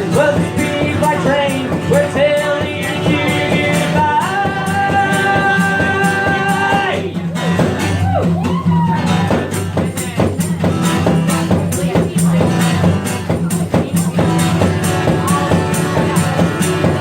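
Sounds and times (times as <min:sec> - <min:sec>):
tambourine beat: 0:00.0 - 0:08.2, 0:09.0 - 0:17.0
blues-rock band playing: 0:00.0 - 0:17.0.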